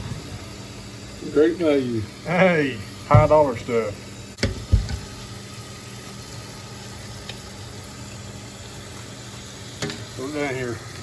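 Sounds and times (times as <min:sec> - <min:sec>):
steady even hiss: 0:00.0 - 0:11.0.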